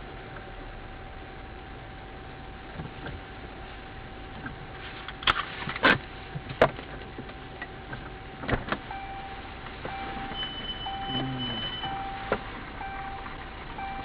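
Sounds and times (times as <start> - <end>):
faint constant tone: 0.0 - 14.0.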